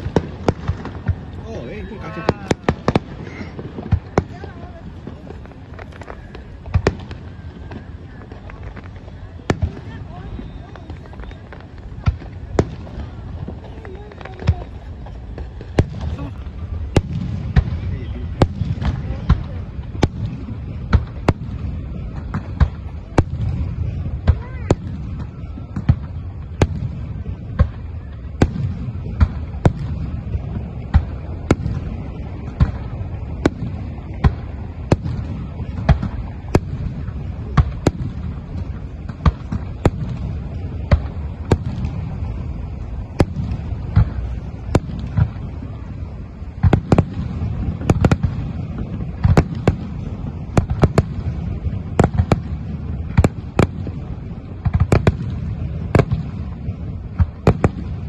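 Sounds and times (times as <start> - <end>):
constant low rumble: 0.0 - 58.0.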